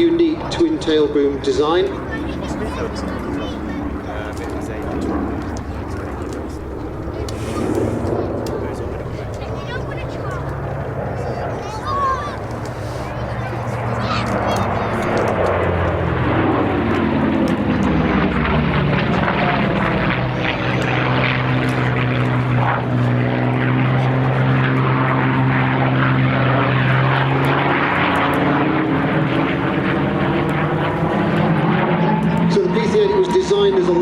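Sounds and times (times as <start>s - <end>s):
propeller aircraft engines droning: 0.0s - 34.0s.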